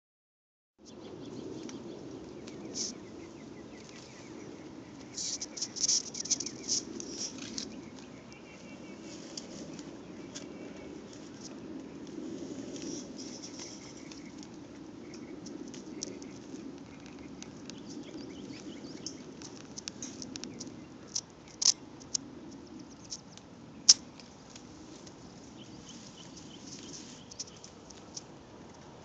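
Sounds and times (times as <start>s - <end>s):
goats chewing weeds: 2.4s - 23.4s, 24.0s - 29.0s.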